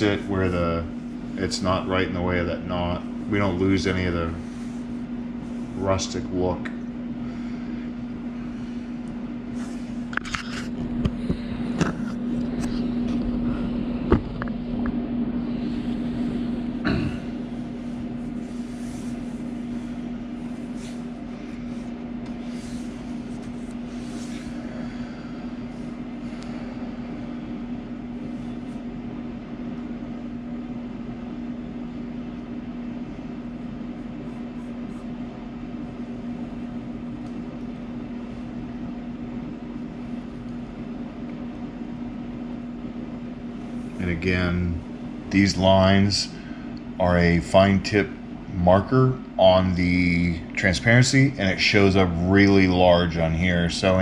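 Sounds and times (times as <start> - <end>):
projector cooling fan hum: 0.0 - 54.0.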